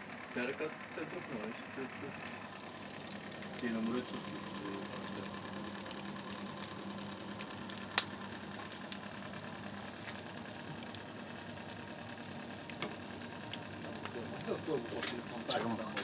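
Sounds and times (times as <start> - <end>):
steady low hum: 0.0 - 16.0
wood fire crackling: 0.0 - 16.0.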